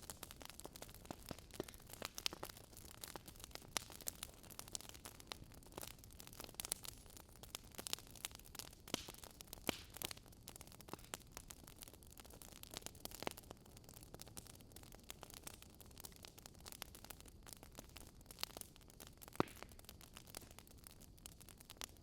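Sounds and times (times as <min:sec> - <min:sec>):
campfire popping and snapping: 0:00.0 - 0:22.0.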